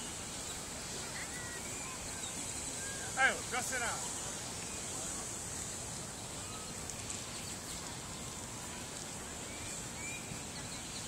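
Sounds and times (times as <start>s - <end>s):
faint distant voices: 0.0s - 11.0s
steady high-pitched hiss: 0.0s - 11.0s.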